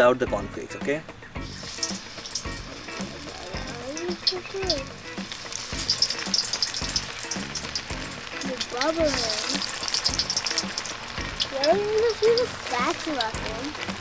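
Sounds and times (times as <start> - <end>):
deep-frying oil sizzling with pops: 0.0 - 14.0.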